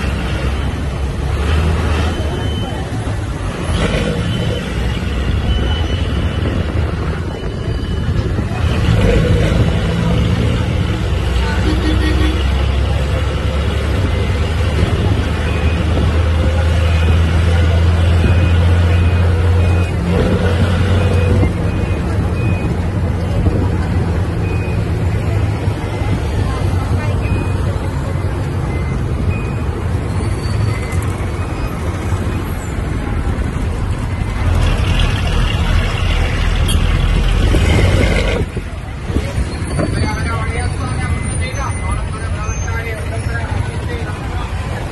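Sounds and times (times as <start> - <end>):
road noise rushing: 0.0 - 44.9
vehicle engine drone: 0.0 - 44.9.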